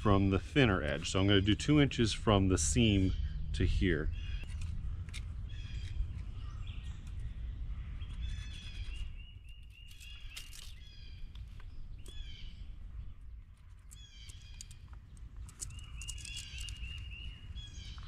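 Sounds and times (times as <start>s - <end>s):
songbirds singing: 0.0s - 18.0s
steady low rumble: 0.0s - 18.0s.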